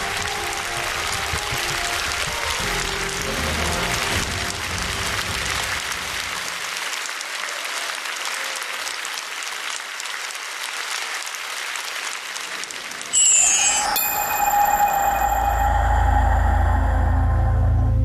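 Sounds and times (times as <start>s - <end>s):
studio audience applauding: 0.0s - 16.6s.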